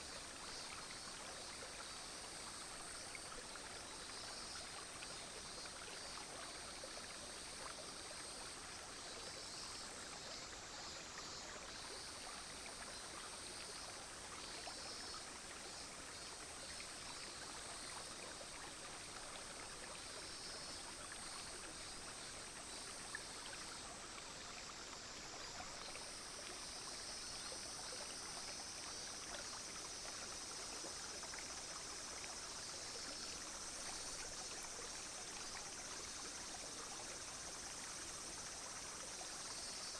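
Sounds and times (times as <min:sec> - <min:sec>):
insects buzzing: 0:00.0 - 0:39.9
stream flowing: 0:00.0 - 0:39.9.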